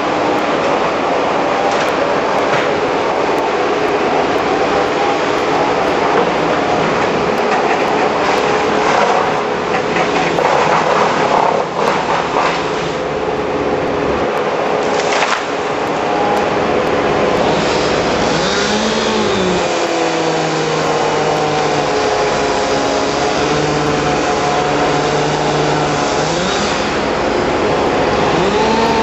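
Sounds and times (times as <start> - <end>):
loud noisy din: 0.0 - 29.0
machinery motor revving: 0.0 - 29.0.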